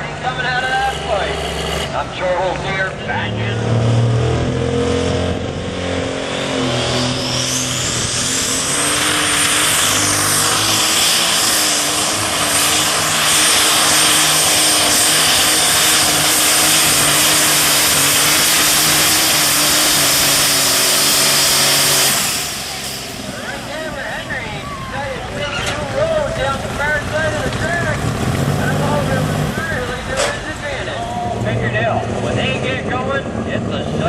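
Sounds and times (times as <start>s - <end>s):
tractor diesel engine at full power: 0.0s - 34.0s.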